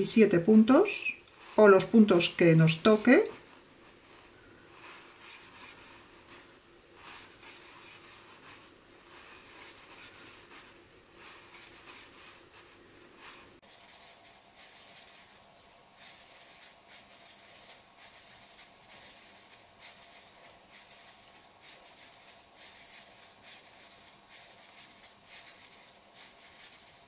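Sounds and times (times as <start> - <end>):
crochet hook scratching yarn: 0.0 - 27.0.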